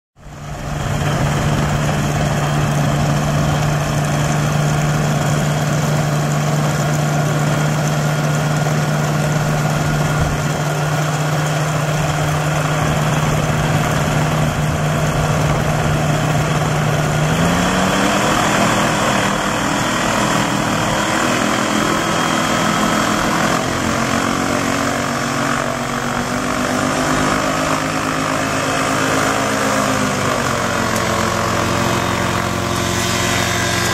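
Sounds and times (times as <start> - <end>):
light aircraft engine and propeller: 0.2 - 33.9.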